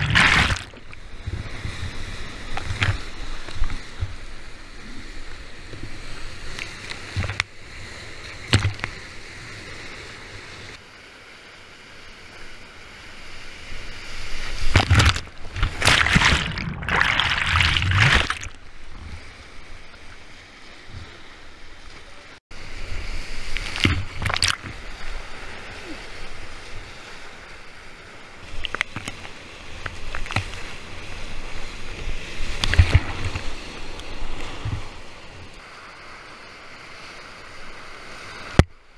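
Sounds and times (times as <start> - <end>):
waves splashing over boat: 0.0 - 10.8, 11.9 - 38.9.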